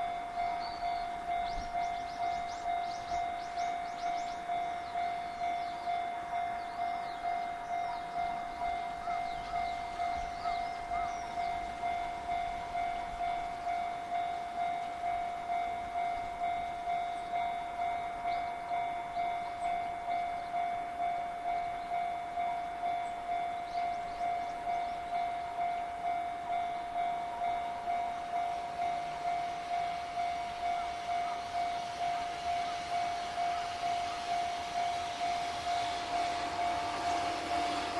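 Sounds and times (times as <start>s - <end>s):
level crossing alarm ringing: 0.0s - 37.9s.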